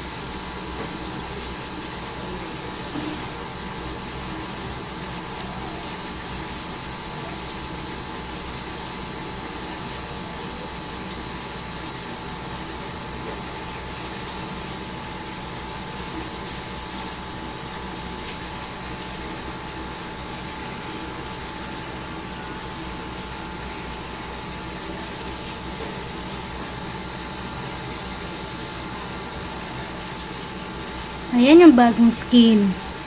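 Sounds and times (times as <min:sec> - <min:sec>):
mechanical hum and hiss: 0:00.0 - 0:33.0.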